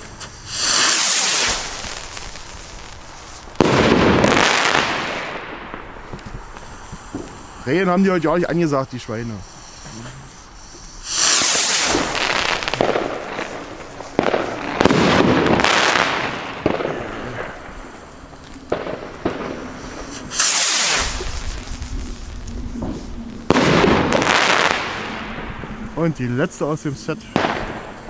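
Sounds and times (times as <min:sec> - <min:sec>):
rocket launching with rushing hiss: 0:00.0 - 0:07.8, 0:09.4 - 0:26.1, 0:27.3 - 0:28.0
sharp firework cracks: 0:00.0 - 0:07.8, 0:09.5 - 0:26.1, 0:27.3 - 0:28.0
firework crackling: 0:00.0 - 0:28.0.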